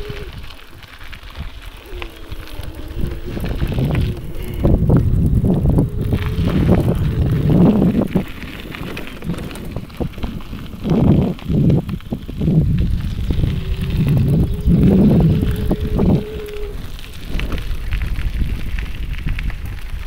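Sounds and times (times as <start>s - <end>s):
bicycle tyres rumbling: 0.0s - 20.0s
wind buffeting microphone: 0.0s - 20.0s.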